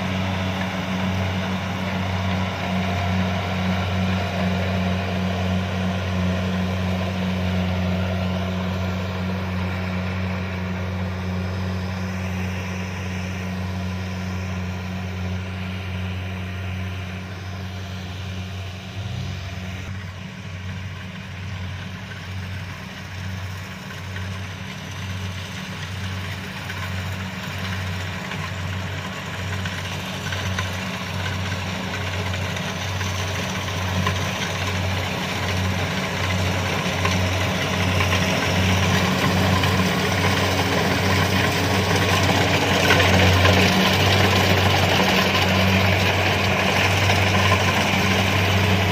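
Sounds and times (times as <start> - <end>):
combine harvester engine running: 0.0 - 48.9
low machinery hum: 0.0 - 48.9.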